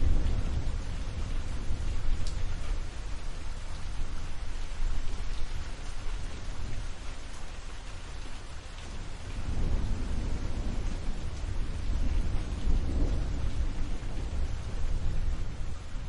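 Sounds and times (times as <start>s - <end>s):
deep rumble of thunder: 0.0s - 7.4s, 8.8s - 16.0s
steady rain: 0.0s - 16.0s.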